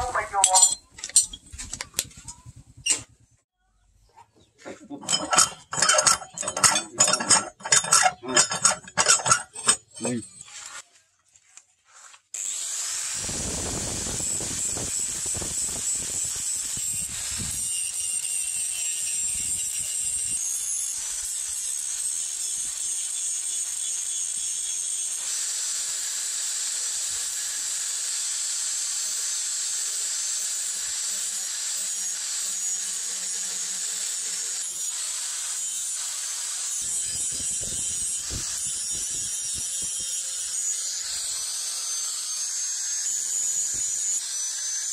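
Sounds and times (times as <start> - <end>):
angle grinder grinding metal: 0.0 - 3.2, 4.8 - 10.8, 12.4 - 44.9.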